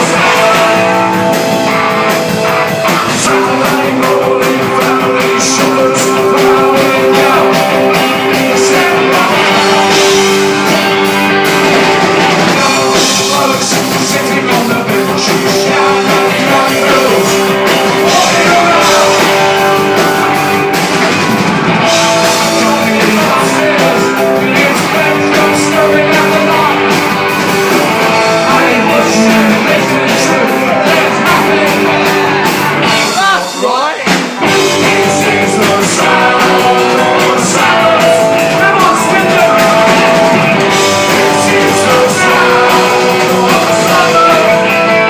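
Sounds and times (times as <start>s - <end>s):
person singing: 0.0s - 20.8s, 22.0s - 45.0s
live punk rock band playing: 0.0s - 45.0s.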